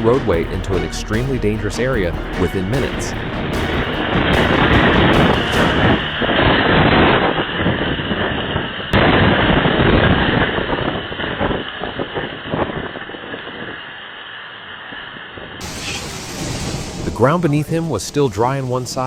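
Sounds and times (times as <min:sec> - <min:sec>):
strong wind buffeting microphone: 0:01.7 - 0:18.0.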